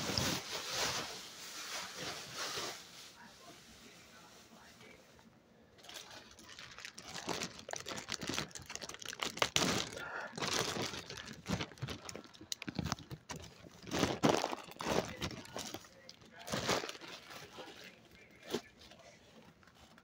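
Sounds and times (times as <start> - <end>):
rustling and crinkling: 0.0 - 5.1, 5.8 - 20.0.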